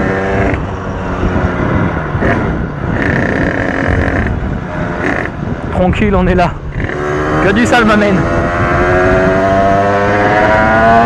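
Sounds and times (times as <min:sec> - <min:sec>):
pit bike engine running hard: 0:00.0 - 0:11.0.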